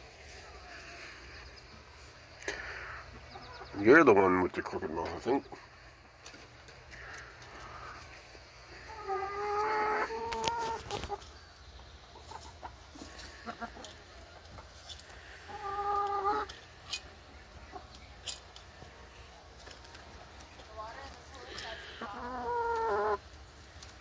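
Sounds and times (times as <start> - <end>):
hens clucking: 0.2 - 24.0.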